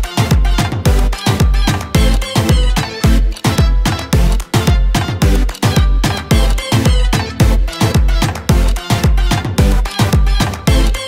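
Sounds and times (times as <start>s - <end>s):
deep kick drum beat: 0.0s - 11.0s
upbeat dance music: 0.0s - 11.0s.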